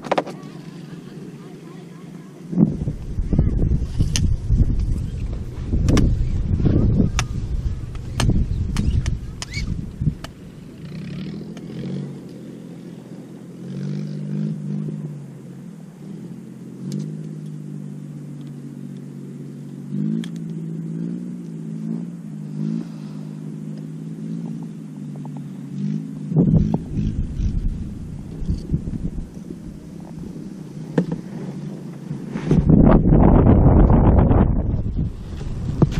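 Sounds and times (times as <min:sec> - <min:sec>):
small engine revving: 0:00.0 - 0:35.9.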